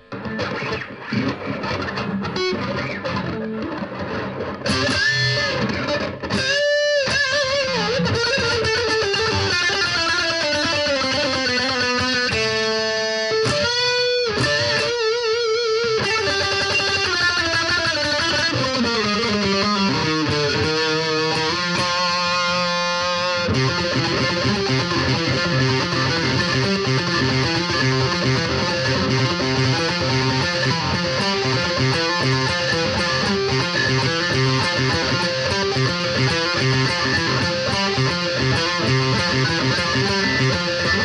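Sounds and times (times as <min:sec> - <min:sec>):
distorted electric guitar: 0:00.0 - 0:41.0.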